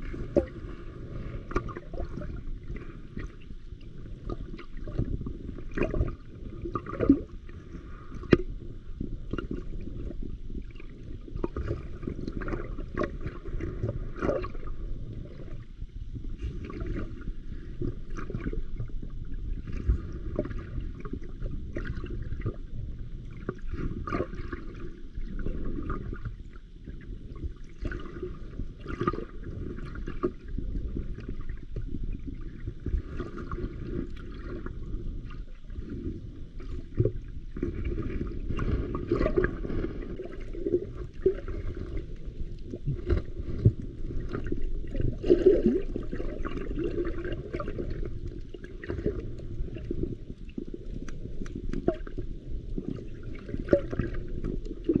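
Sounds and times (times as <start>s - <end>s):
underwater sloshing and gurgling: 0.0s - 55.0s.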